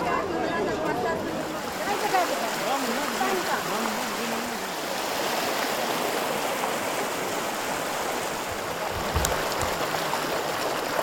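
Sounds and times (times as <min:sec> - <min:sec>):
water rushing over terraces: 0:01.1 - 0:11.0.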